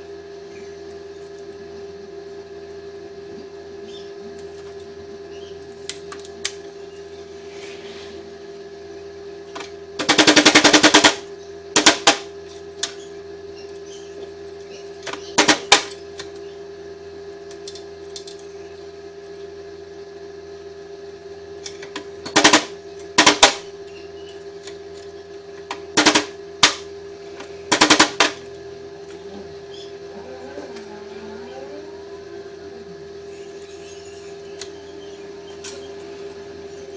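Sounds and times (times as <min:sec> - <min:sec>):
steady hum: 0:00.0 - 0:36.9.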